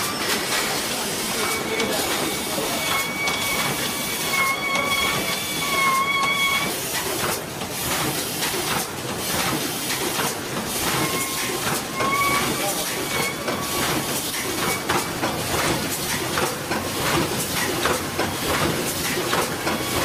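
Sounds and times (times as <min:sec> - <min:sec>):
machine feeders and rollers clattering: 0:00.0 - 0:20.0.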